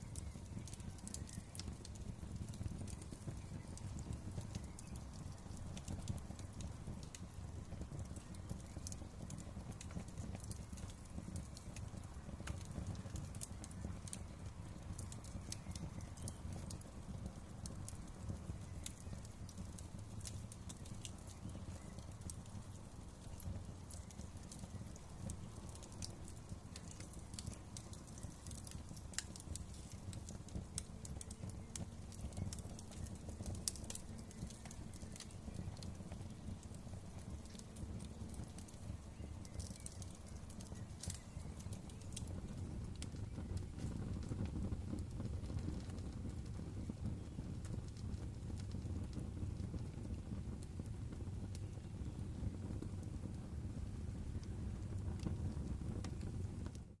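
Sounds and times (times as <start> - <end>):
fire popping and snapping: 0.0 - 57.0
wood fire crackling: 0.0 - 57.0.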